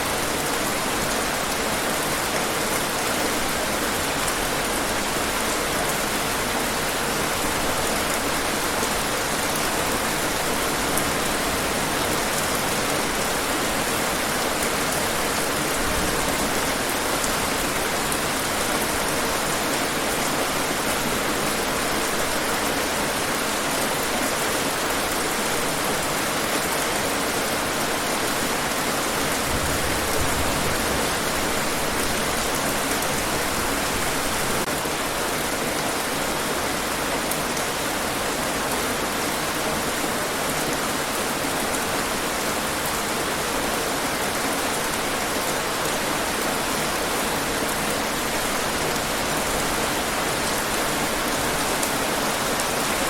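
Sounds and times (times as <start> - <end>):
rain on hard surfaces: 0.0 - 53.0.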